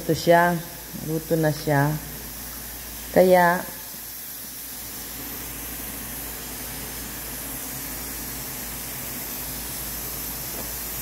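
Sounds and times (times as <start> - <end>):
pot boiling with steady hiss: 0.0 - 11.0.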